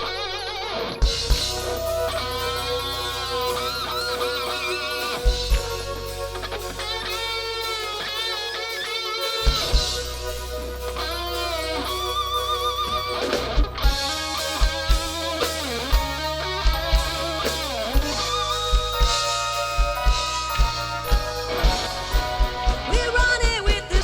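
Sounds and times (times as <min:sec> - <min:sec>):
bass guitar: 0:00.0 - 0:24.0
electric guitar solo: 0:00.0 - 0:24.0.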